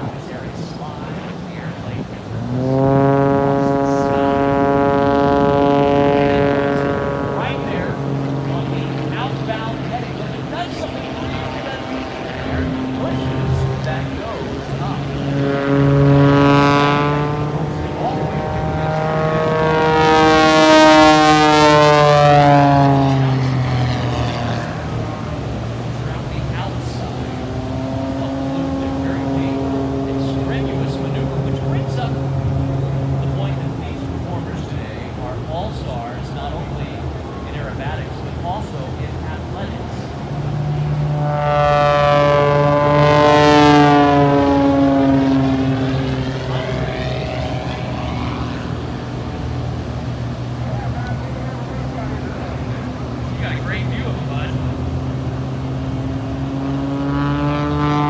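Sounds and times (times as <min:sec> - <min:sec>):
propeller plane passing by: 0:00.0 - 0:58.0.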